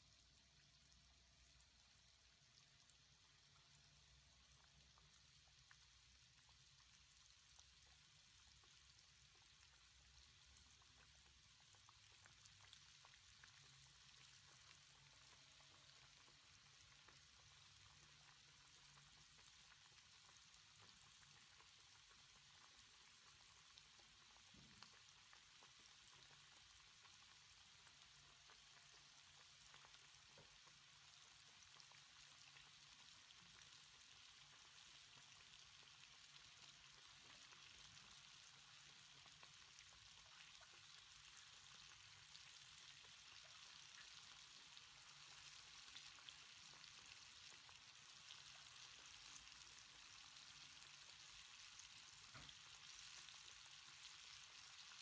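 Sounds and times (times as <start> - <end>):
chicken deep-frying in hot oil: 0.0 - 55.0.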